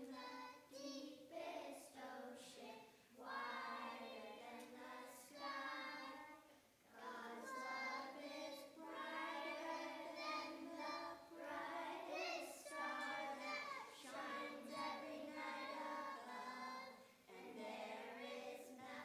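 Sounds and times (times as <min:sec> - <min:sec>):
children singing in unison: 0:00.0 - 0:19.0.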